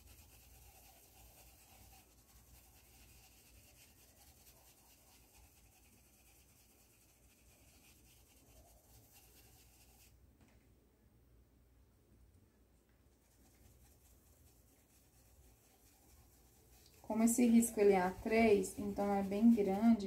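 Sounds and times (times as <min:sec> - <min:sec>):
paintbrush rubbing on cloth: 0:00.0 - 0:10.2, 0:12.9 - 0:20.0.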